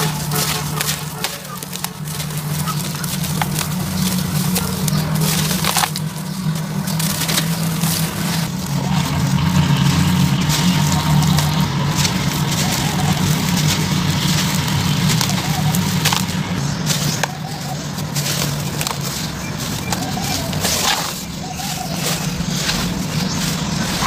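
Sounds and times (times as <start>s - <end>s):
cement lumps crunching: 0.0s - 24.0s
steady low hum: 0.0s - 24.0s.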